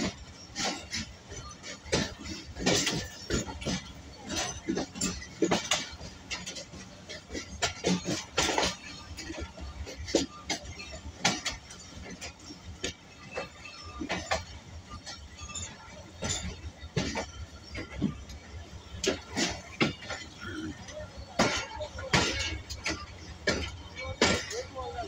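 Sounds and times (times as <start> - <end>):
clinks and knocks: 0.0 - 25.0.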